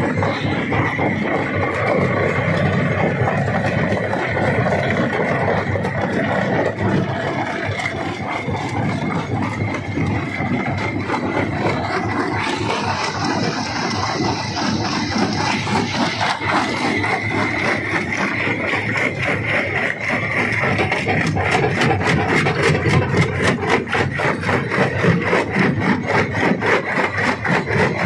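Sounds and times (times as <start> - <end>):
rock crusher running: 0.0 - 28.0.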